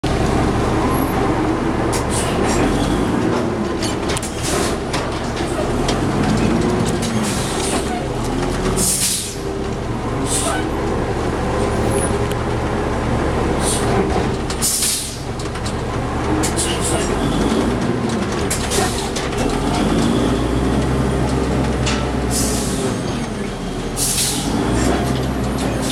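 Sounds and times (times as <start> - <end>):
large engine running: 0.0 - 25.9.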